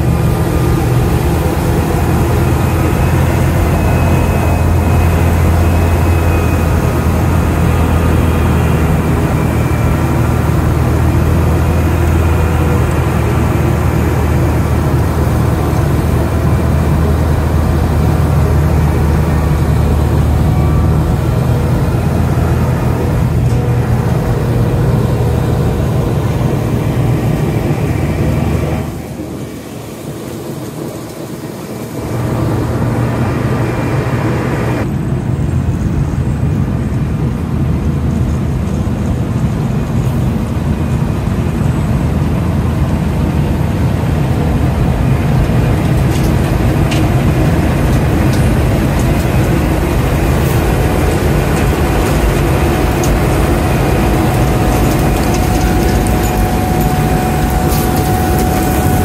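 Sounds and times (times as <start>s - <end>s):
diesel construction machinery droning: 0.0s - 59.0s.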